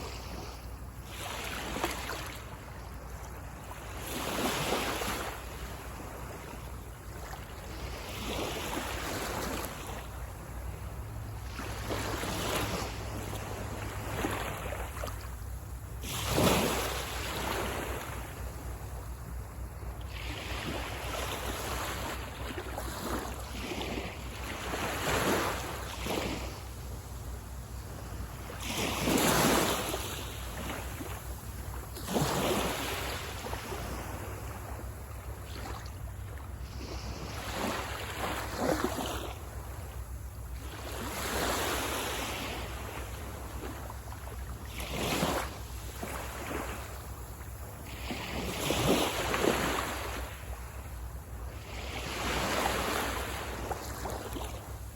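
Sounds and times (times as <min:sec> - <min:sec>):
sea waves breaking on beach: 0:00.0 - 0:54.9
wind rumble on microphone: 0:00.0 - 0:54.9.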